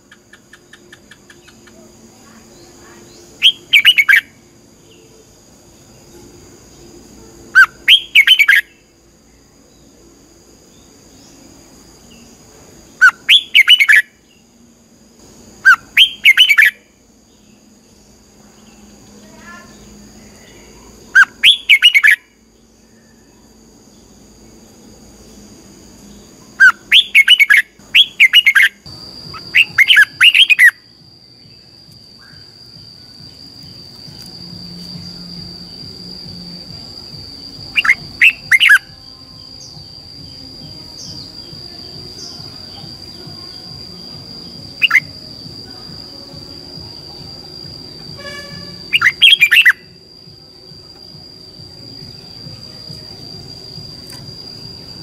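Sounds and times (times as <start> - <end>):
high insect drone: 0.0 - 55.0.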